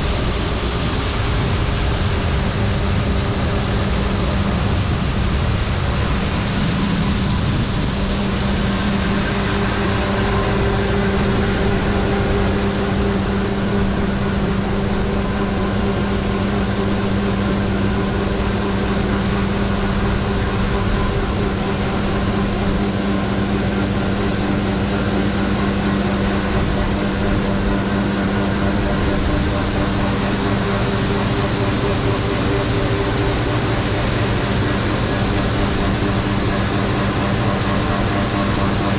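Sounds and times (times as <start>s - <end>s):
harvest machinery droning: 0.0s - 38.9s.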